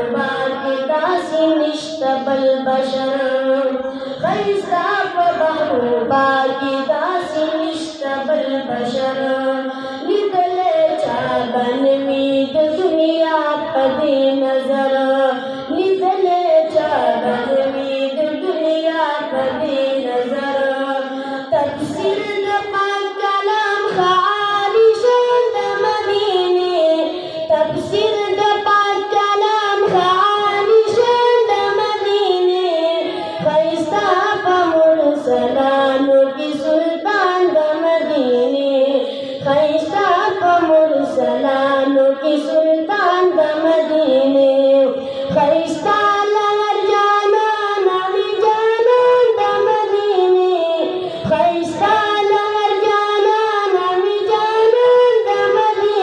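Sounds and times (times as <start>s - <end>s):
boy singing into microphone: 0.0s - 56.0s.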